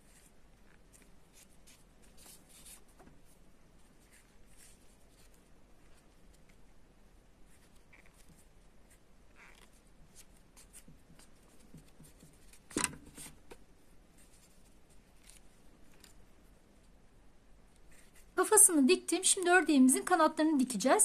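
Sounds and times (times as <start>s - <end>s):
hands sewing yarn rustling: 0.0s - 21.0s.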